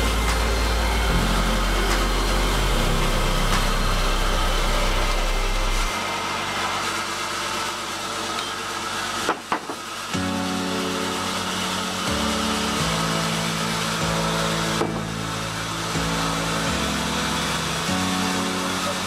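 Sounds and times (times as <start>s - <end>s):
music with held low notes: 0.0s - 9.1s, 10.0s - 19.0s
sawmill machinery running: 0.0s - 19.0s.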